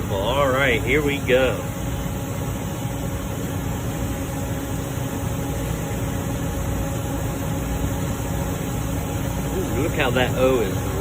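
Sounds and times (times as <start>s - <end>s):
mechanical hum and hiss: 0.0s - 11.0s.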